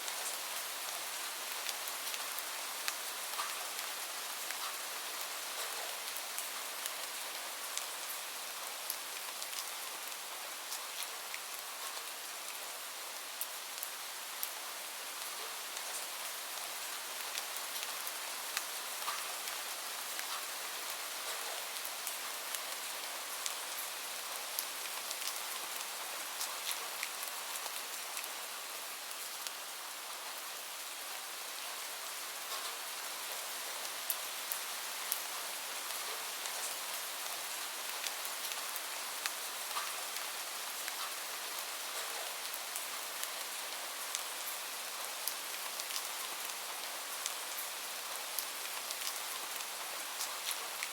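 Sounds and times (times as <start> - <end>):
rain hiss: 0.0 - 50.9.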